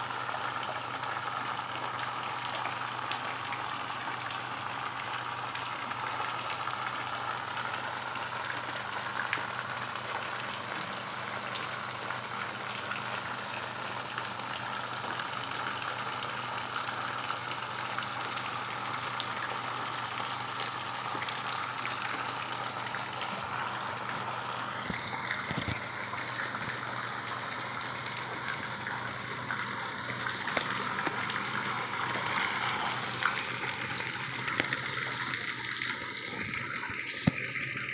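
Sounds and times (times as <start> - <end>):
water rushing and splashing: 0.0 - 37.9.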